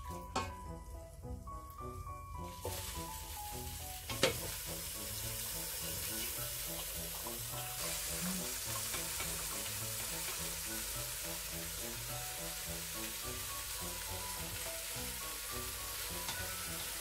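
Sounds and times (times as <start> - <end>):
background tune: 0.0 - 17.0
meat sizzling in a pan: 1.7 - 17.0.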